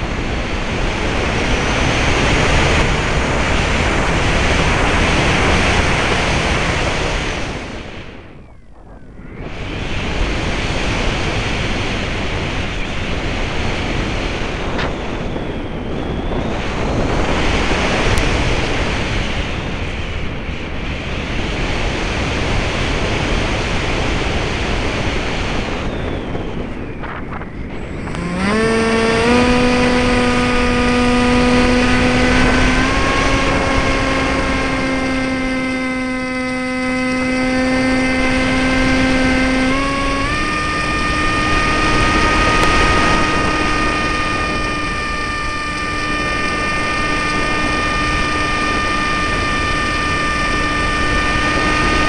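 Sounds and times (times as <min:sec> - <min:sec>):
model plane motor hum: 0:00.0 - 0:52.0
wind rushing over microphone: 0:00.0 - 0:52.0.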